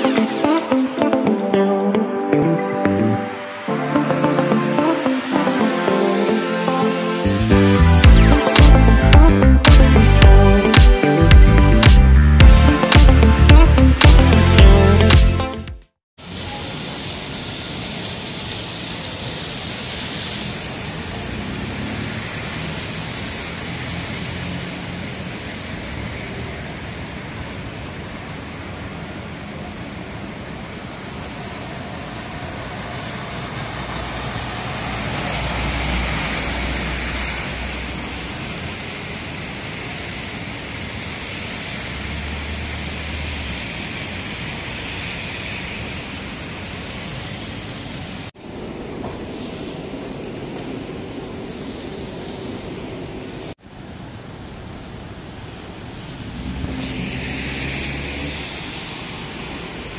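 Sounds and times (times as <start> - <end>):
engines passing: 0.0 - 15.1, 19.4 - 51.8, 55.6 - 59.9
tyres hissing on wet road: 3.3 - 9.1, 16.2 - 59.9.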